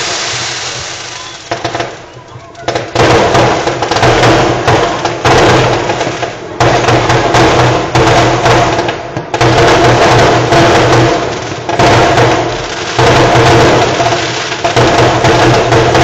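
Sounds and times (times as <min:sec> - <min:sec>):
fireworks crackle: 0:00.0 - 0:16.0
fireworks shots: 0:00.0 - 0:16.0.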